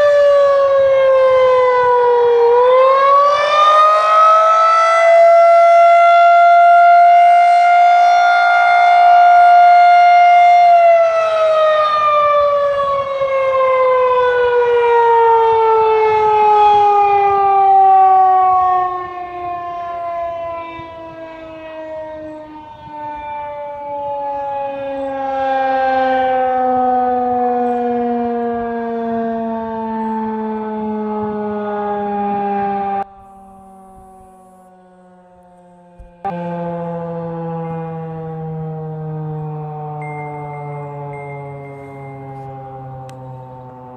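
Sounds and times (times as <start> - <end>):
tornado siren winding down: 0.0 - 43.9.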